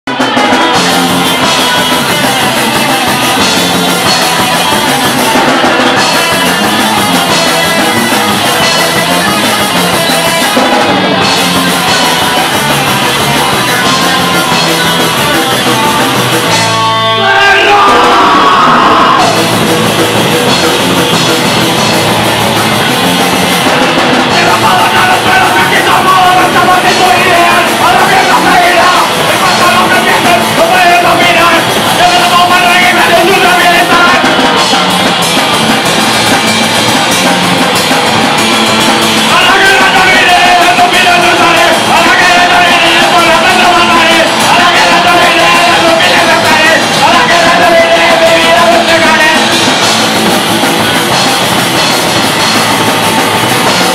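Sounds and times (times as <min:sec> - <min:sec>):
bass guitar: 0:00.0 - 0:53.9
distorted electric guitar: 0:00.0 - 0:53.9
person singing: 0:00.0 - 0:53.9
drum kit: 0:00.1 - 0:53.9.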